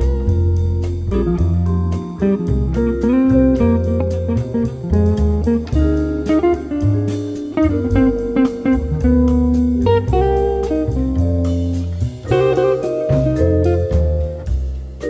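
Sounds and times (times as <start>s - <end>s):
plucked guitar: 0.0s - 14.8s
bass line: 0.0s - 15.0s.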